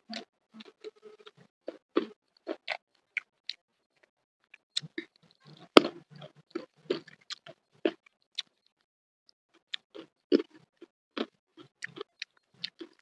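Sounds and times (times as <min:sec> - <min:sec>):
mouth chewing food: 0:00.0 - 0:08.9, 0:09.5 - 0:13.0.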